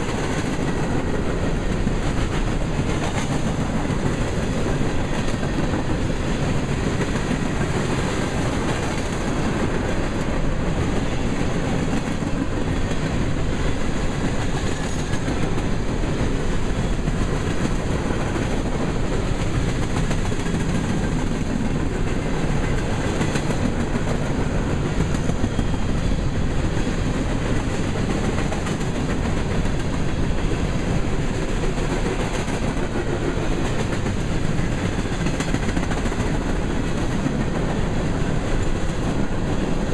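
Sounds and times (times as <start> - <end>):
clickety-clack over rail joints: 0.0 - 39.9
steel wheels rumbling on rail: 0.0 - 39.9.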